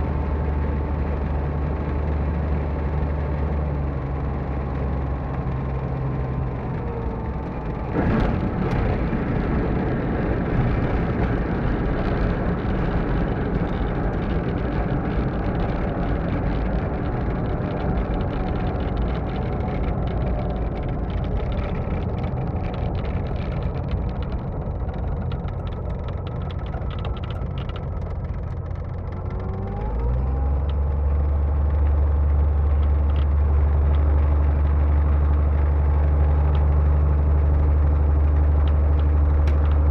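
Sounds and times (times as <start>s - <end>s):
light aircraft engine: 0.0s - 39.9s
rough rumble of rolling on runway: 0.0s - 39.9s.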